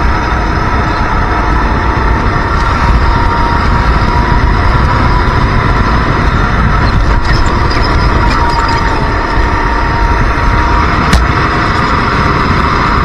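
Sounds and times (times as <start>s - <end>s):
racing kart engine at speed: 0.0s - 13.0s.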